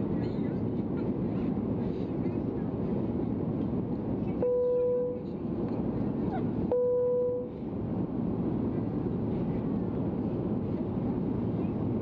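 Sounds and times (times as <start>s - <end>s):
airplane cabin airflow and engines: 0.0s - 12.0s.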